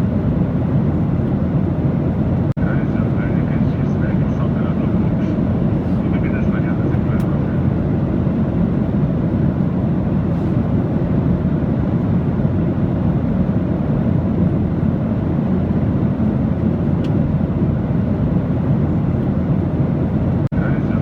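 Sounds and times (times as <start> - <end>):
aircraft roar in flight: 0.0 - 21.0.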